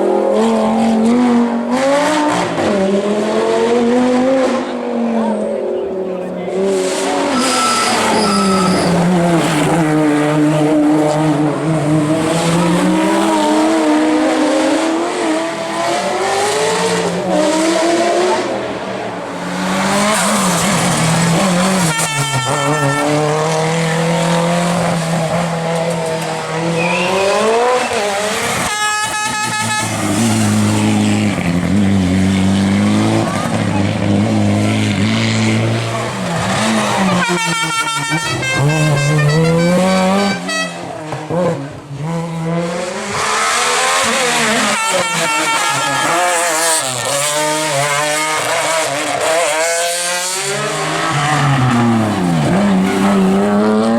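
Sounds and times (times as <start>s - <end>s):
race car engine at high revs: 0.0s - 53.9s.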